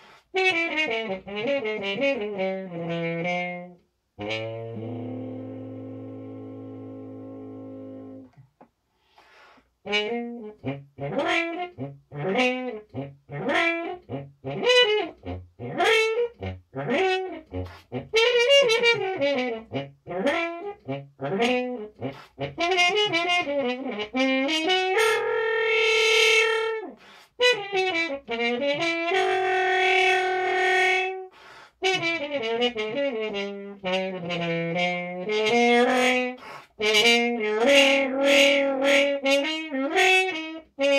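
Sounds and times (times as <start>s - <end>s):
muted french horn solo: 0.3s - 8.3s, 9.8s - 40.9s.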